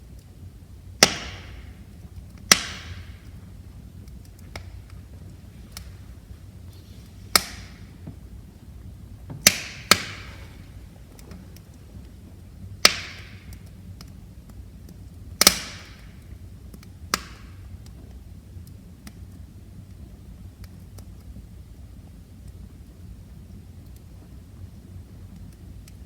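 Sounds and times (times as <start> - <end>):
low steady rumble: 0.0 - 26.0
wood fire crackling: 0.0 - 26.0.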